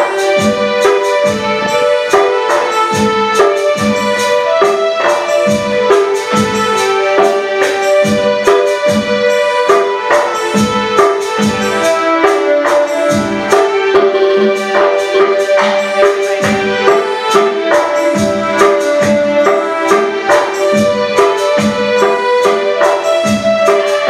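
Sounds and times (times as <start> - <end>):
song with steady beat: 0.0 - 24.0.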